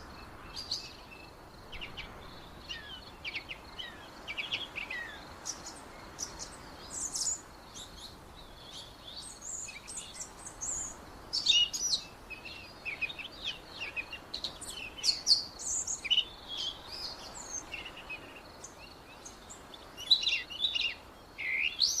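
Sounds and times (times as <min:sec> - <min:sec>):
faint steady hiss: 0:00.0 - 0:22.0
songbirds chirping: 0:00.0 - 0:22.0.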